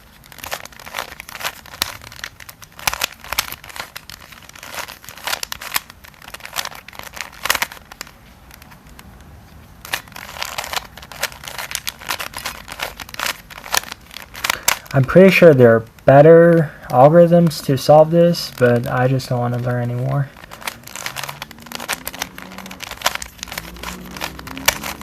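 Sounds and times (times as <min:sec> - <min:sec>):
puzzle cube clicking as turned: 0:00.0 - 0:25.0.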